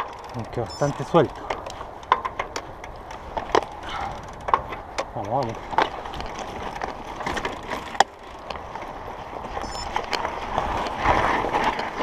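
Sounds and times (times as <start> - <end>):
bike knocking and rattling: 0.0 - 12.0
bike tyres crunching on gravel: 0.0 - 12.0.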